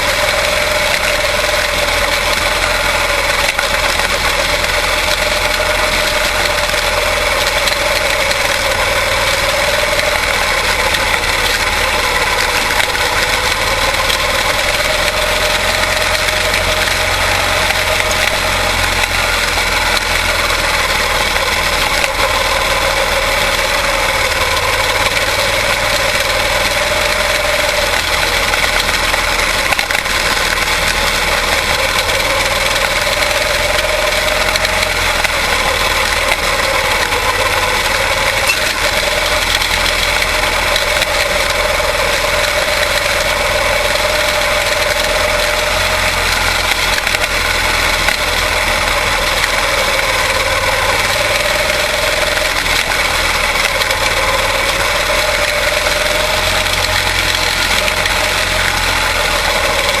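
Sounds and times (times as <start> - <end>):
race car engines droning: 0.0 - 60.0.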